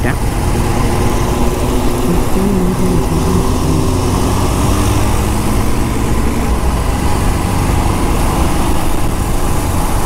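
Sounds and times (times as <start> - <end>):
heavy wind noise: 0.0 - 10.0
motorcycle engine running: 0.0 - 10.0.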